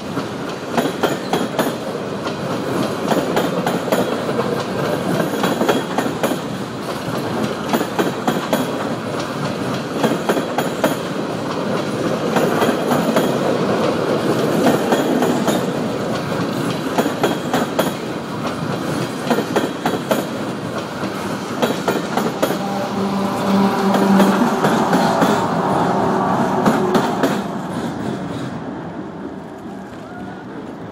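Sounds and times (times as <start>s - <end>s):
freight train wheels clicking: 0.0s - 30.9s
diesel locomotive engine hum: 1.8s - 30.9s.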